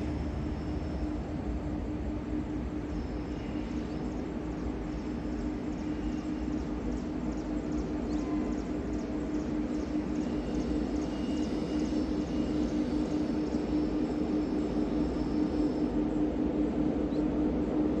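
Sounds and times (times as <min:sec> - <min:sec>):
distant train droning: 0:00.0 - 0:18.0.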